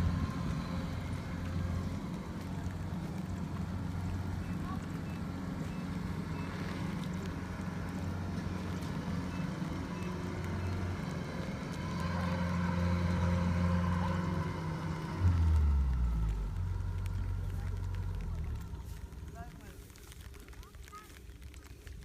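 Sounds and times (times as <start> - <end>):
harvesting machine engine droning: 0.0 - 20.6.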